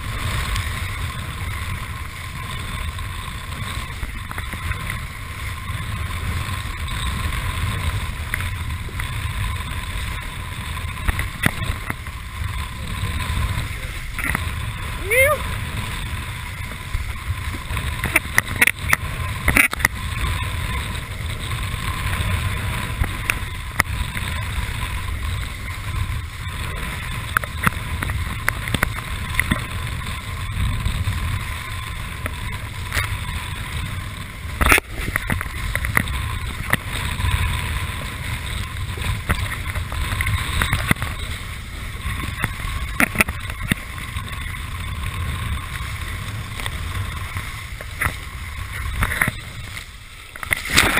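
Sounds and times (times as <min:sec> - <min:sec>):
water rushing under kiteboard: 0:00.0 - 0:50.9
wind buffeting microphone: 0:00.0 - 0:50.9.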